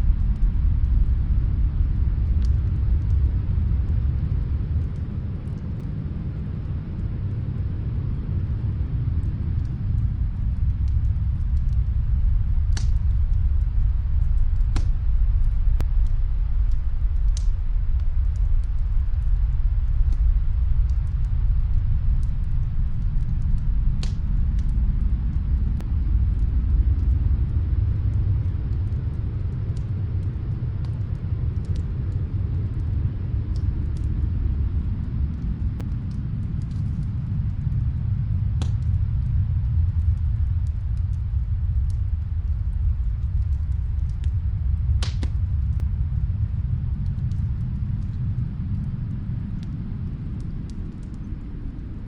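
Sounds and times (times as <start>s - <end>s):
faint wood fire crackling: 0.0s - 52.0s
storm wind rumbling: 0.0s - 52.0s.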